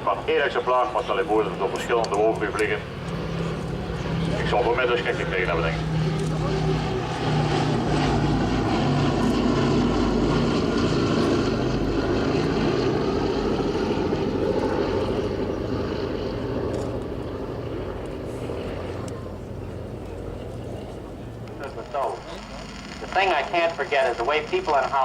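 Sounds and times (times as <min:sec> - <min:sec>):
propeller plane engines passing: 0:00.0 - 0:25.0.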